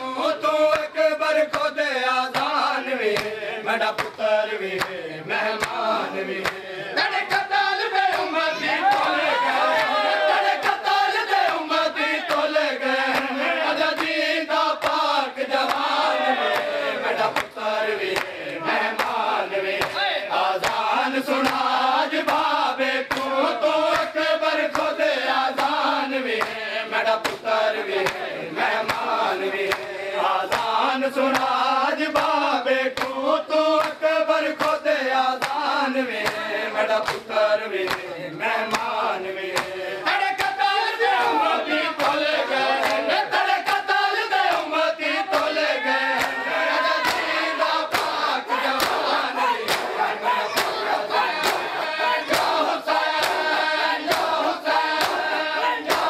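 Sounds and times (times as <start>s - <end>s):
men chanting a lament: 0.0s - 56.0s
hands slapping on bare chests: 0.6s - 7.5s, 8.1s - 9.2s, 10.5s - 14.2s, 14.8s - 31.6s, 32.2s - 33.2s, 33.8s - 34.8s, 35.4s - 38.1s, 38.7s - 39.8s, 42.8s - 45.6s, 46.2s - 46.4s, 47.0s - 56.0s.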